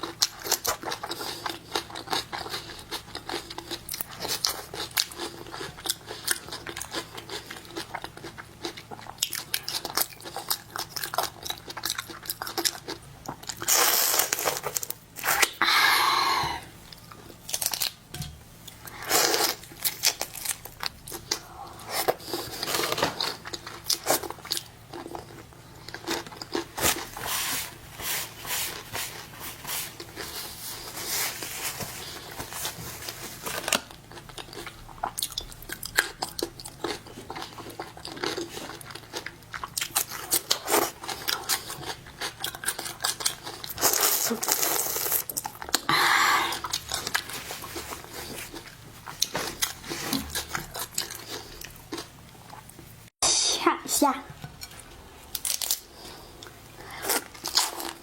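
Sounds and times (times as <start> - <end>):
chewing: 0.0 - 15.6, 18.6 - 27.3, 28.6 - 52.9.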